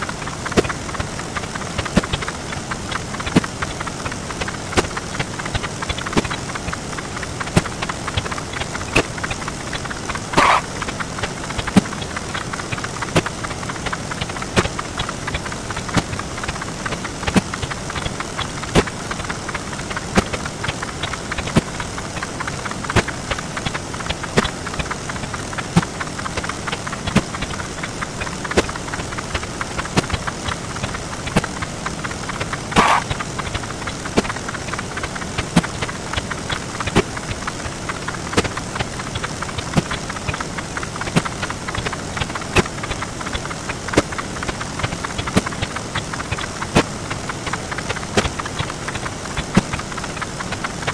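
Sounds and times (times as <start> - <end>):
sped-up crackling hiss: 0.0 - 50.9
sharp clicks: 0.2 - 50.9.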